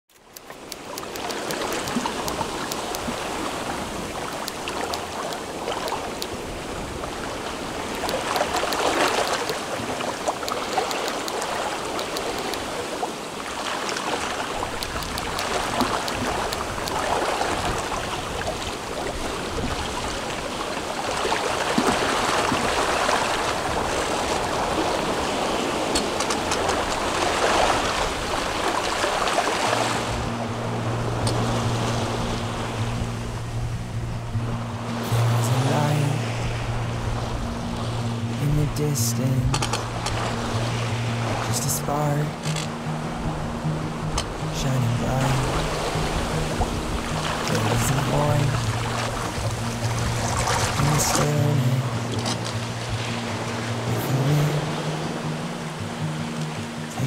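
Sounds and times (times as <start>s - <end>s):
sea waves rushing: 0.1s - 57.0s.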